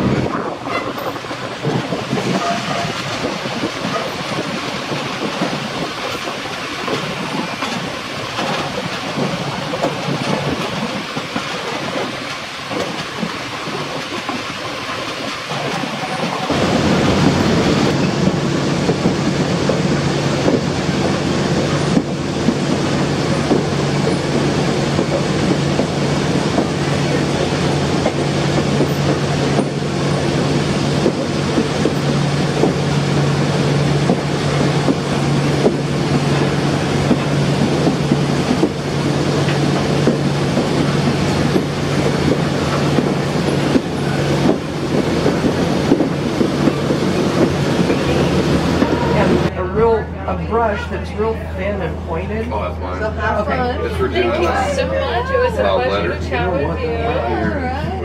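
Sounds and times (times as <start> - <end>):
wheels clicking over rail joints: 0.0 - 49.5
train rumbling along track: 0.0 - 58.0.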